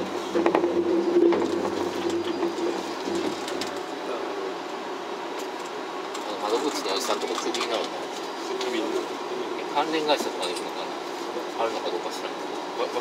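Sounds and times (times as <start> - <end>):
cable car mechanical hum: 0.0 - 13.0.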